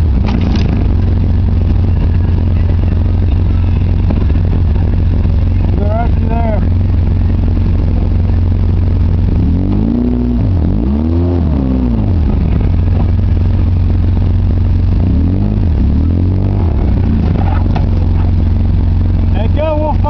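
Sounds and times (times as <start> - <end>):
engine revving on the move: 0.0 - 20.0.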